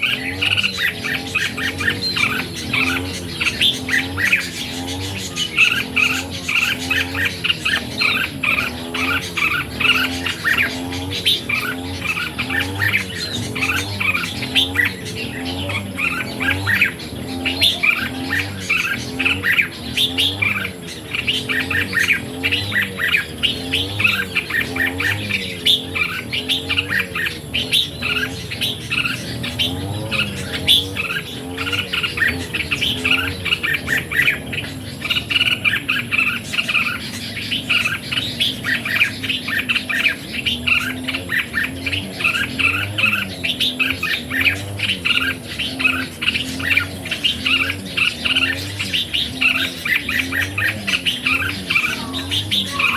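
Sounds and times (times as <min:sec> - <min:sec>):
birds singing and chirping: 0:00.0 - 0:52.9
low wavering hum: 0:00.0 - 0:52.9.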